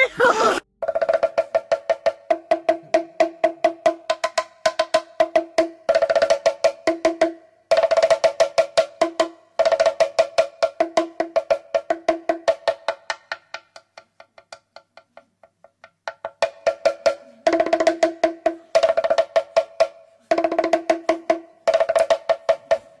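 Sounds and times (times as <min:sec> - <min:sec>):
fast wooden percussion: 0:00.8 - 0:23.0.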